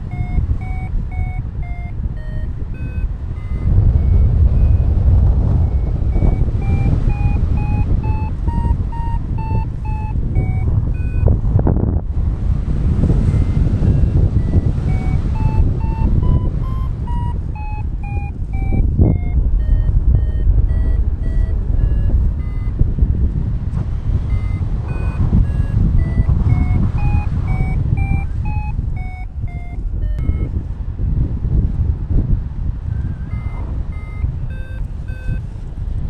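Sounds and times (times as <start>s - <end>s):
variometer beeping: 0.0s - 30.7s, 32.9s - 35.7s
wind noise on microphone: 0.0s - 36.0s.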